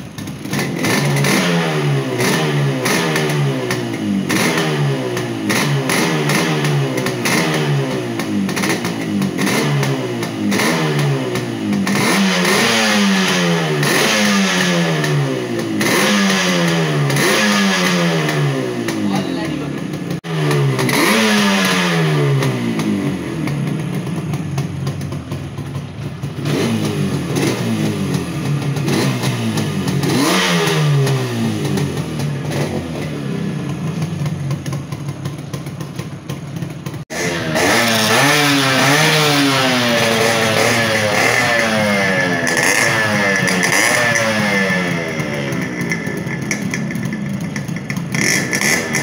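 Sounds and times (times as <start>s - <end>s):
two-stroke motorcycle engine revving: 0.0s - 49.0s.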